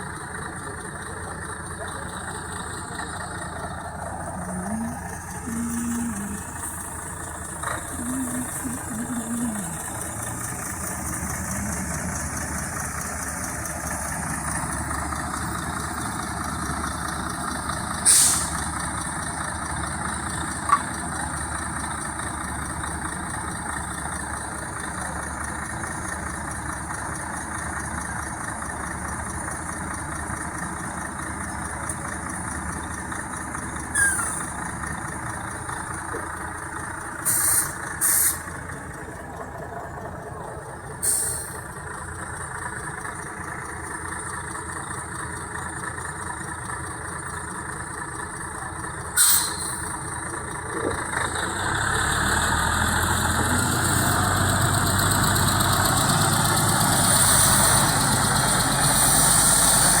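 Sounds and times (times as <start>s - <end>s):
engine running: 0.0s - 60.0s.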